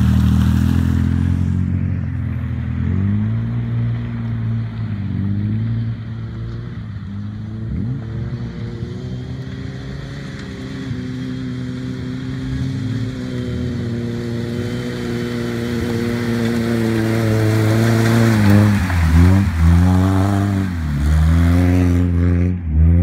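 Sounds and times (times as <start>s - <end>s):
car engine at low revs: 0.0s - 23.0s.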